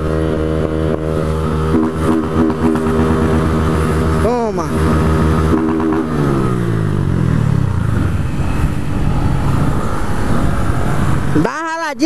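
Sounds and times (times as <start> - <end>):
motorcycle engine: 0.0 - 11.8.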